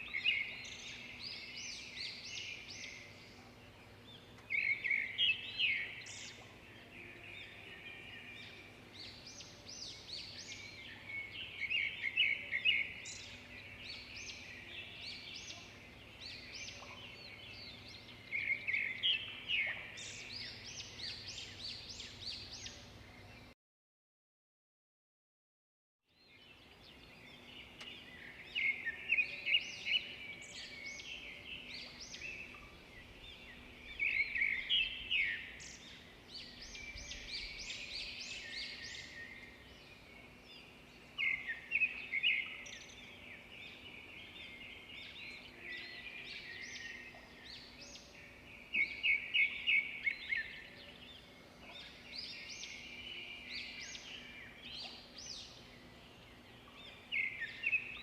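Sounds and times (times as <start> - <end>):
birds singing and chirping: 0.0 - 23.5, 26.1 - 58.0.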